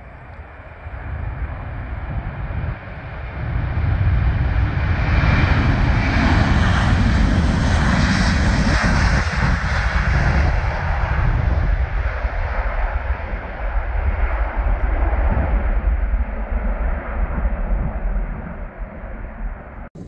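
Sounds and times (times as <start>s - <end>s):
jet engines at takeoff thrust: 0.0s - 20.0s.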